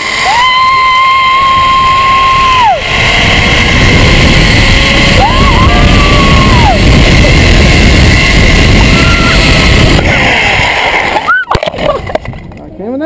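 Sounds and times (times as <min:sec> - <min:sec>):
pulley running along cable: 0:00.0 - 0:13.0
wind rush on microphone: 0:00.0 - 0:13.0.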